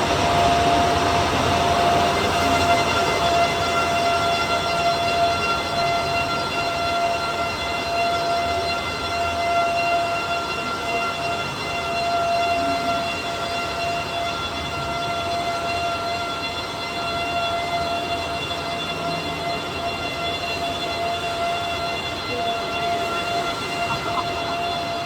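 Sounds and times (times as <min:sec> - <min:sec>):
machine high whine: 0:00.0 - 0:25.0.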